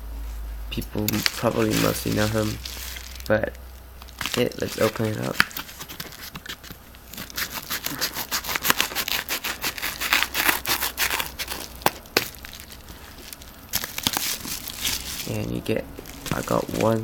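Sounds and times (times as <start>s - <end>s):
package handling: 1.0s - 17.0s
package wrapping tearing: 1.0s - 17.0s.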